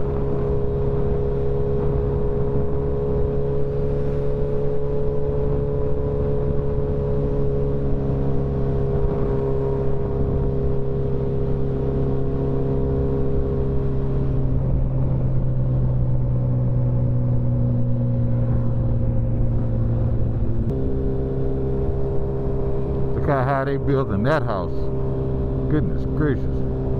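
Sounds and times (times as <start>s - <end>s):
motorcycle engine cruising: 0.0s - 26.9s
road rumble: 0.0s - 26.9s
wind: 0.0s - 26.9s.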